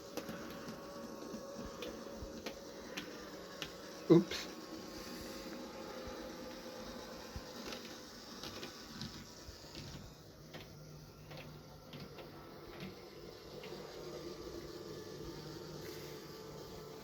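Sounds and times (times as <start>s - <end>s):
model train humming on track: 0.0s - 17.0s.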